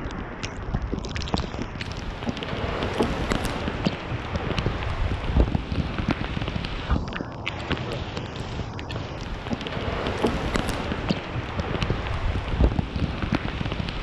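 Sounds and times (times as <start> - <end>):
raindrop impacts close by: 0.1 - 14.0
heavy rain hiss: 1.8 - 14.0.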